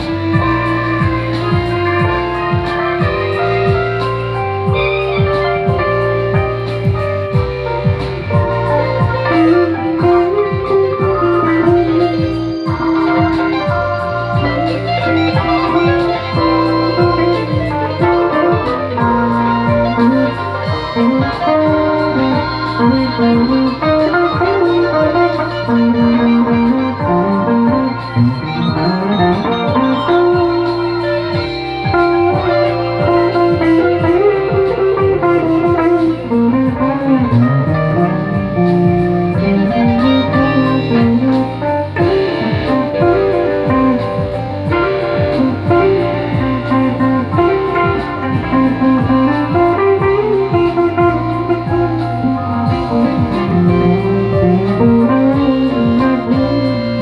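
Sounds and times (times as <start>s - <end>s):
plucked blues guitar: 0.0s - 57.0s
steady bass: 0.0s - 57.0s.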